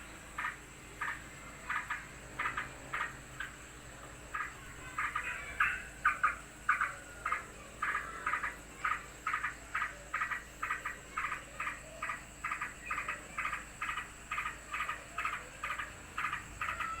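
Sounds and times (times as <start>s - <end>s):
bird harsh alarm calls: 0.0s - 17.0s.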